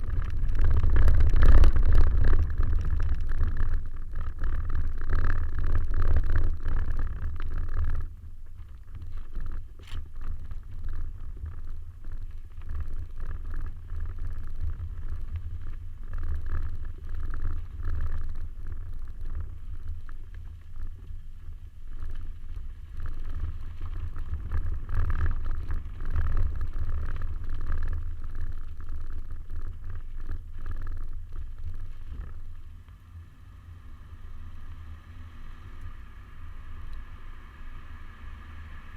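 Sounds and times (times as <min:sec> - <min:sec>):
car engine rumbling off-road: 0:00.0 - 0:38.9.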